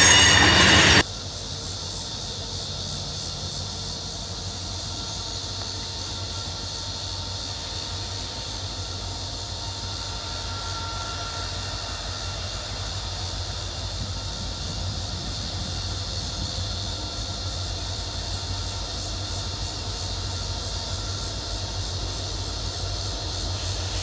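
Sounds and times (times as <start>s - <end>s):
diesel locomotive rumble: 0.0s - 24.0s
high-pitched hiss: 0.0s - 24.0s.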